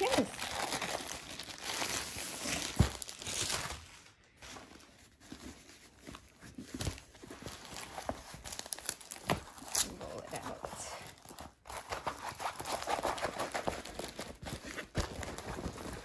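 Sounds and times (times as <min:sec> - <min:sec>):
plastic sleeve crinkling: 0:00.0 - 0:16.0.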